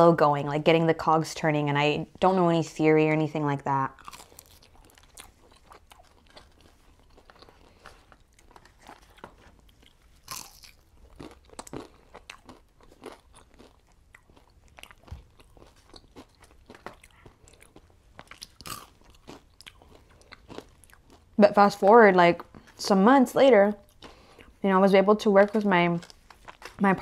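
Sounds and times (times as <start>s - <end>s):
chewing and crunching food: 3.8s - 27.0s.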